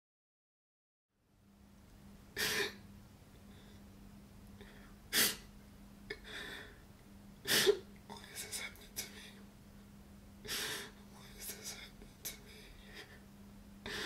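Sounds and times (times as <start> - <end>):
faint steady hum: 1.1 - 14.0.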